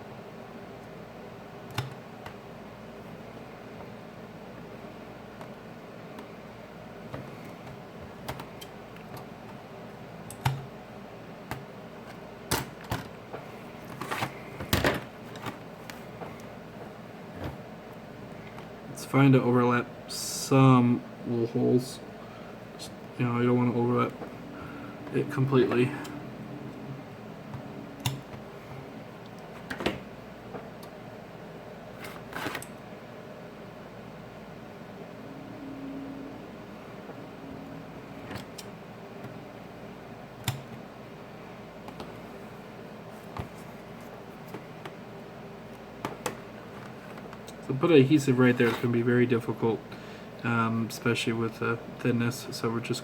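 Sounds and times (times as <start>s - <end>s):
steady background hiss: 0.0s - 53.0s.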